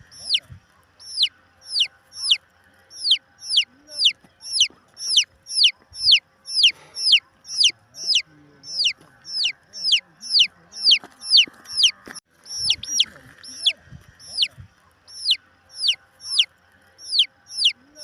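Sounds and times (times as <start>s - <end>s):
chick peeping: 0.0s - 18.0s.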